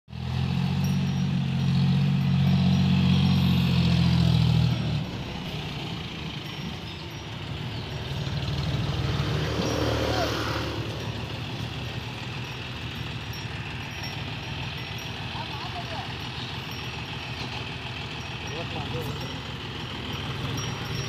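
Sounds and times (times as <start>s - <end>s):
tractor diesel engine running: 0.1s - 21.0s.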